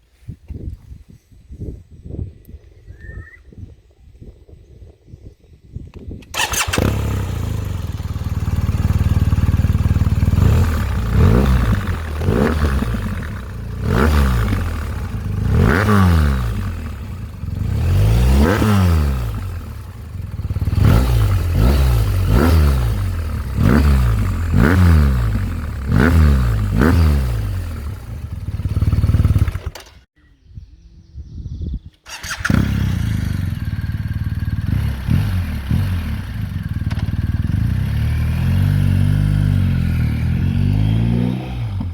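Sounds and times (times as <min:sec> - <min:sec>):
motorcycle engine revving: 0:06.3 - 0:30.1, 0:32.1 - 0:41.9.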